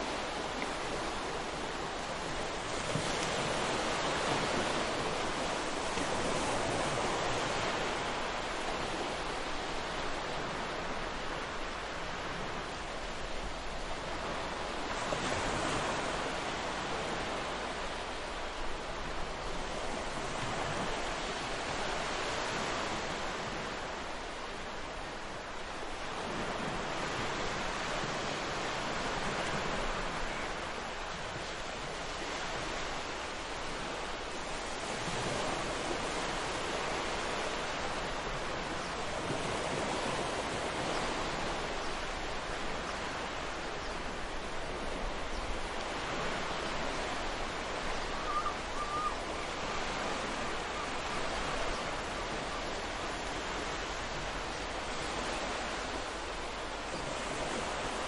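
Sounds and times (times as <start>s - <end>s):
ocean waves on beach: 0.0s - 58.0s.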